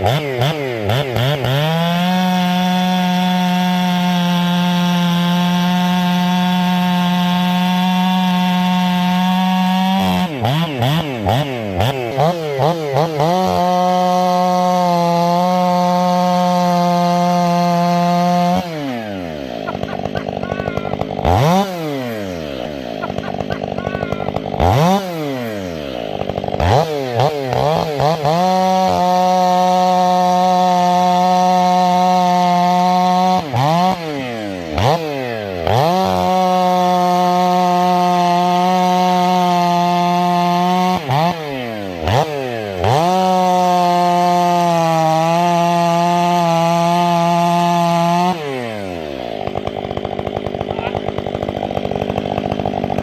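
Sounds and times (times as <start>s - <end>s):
chainsaw cutting a log: 0.0s - 53.0s.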